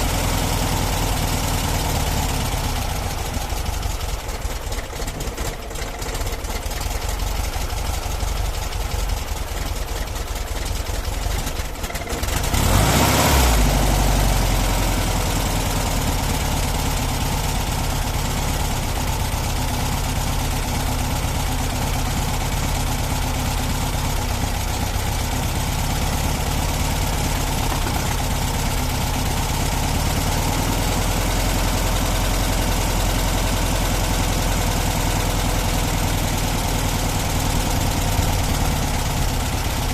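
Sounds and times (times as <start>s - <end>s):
van engine idling: 0.0s - 39.9s.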